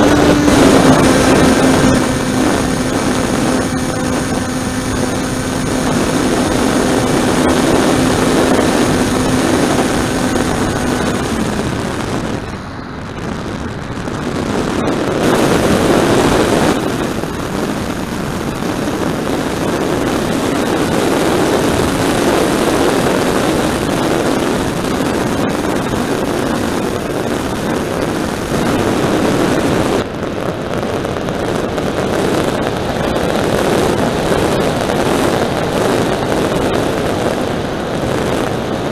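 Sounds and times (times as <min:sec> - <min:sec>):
air rushing over microphone: 0:00.0 - 0:38.9
motor and propeller drone: 0:00.0 - 0:38.9.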